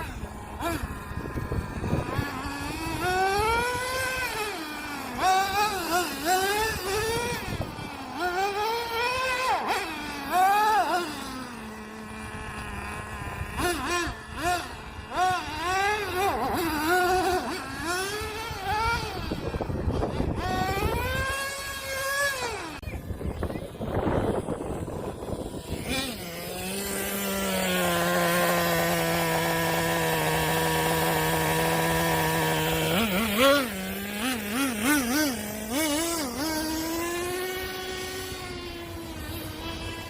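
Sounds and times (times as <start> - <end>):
nitro engine revving and idling: 0.0 - 40.0.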